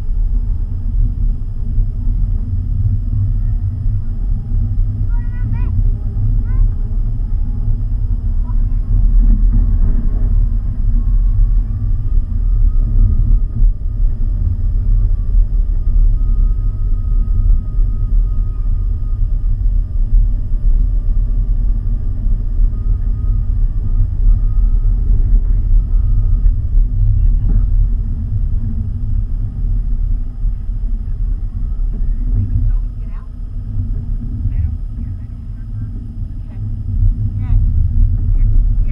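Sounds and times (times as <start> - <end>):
car engine and road noise: 0.0 - 38.9
faint thin whine: 0.0 - 38.9.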